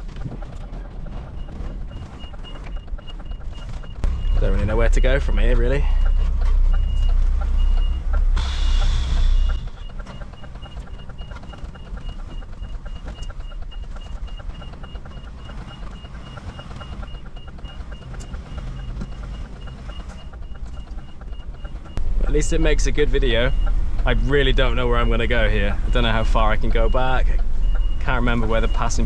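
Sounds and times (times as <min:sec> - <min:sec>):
diesel engine rumbling: 0:00.0 - 0:29.0
reversing alarm beeping: 0:00.0 - 0:29.0.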